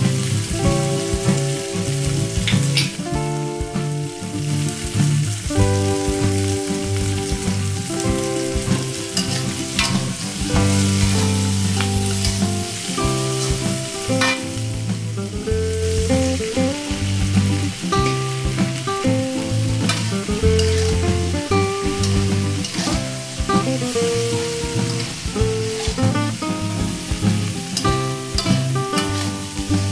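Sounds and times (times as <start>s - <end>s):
food sizzling in a wok: 0.0s - 29.9s
soft music of held chords: 0.0s - 29.9s.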